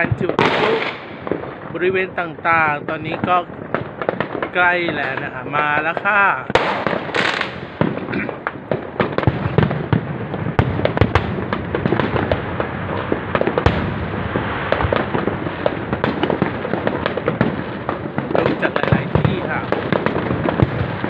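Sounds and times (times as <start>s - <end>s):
fireworks popping and crackling: 0.0s - 21.0s
loud firework bangs: 0.0s - 21.0s.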